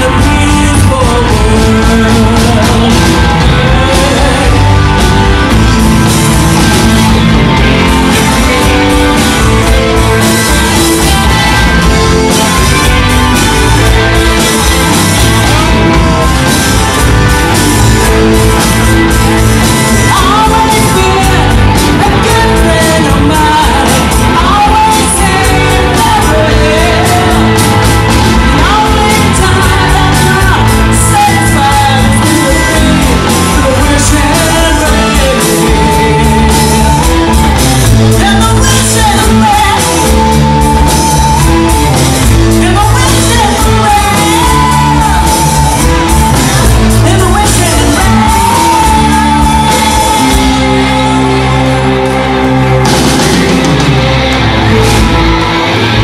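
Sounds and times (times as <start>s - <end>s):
person singing lead vocal: 0.0s - 56.0s
rock band playing live: 0.0s - 56.0s.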